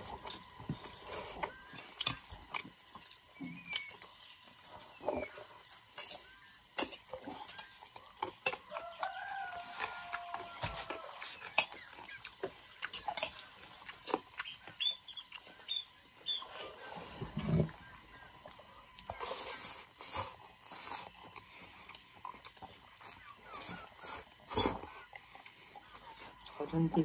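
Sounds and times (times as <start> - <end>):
chickens clucking: 3.2 - 27.0.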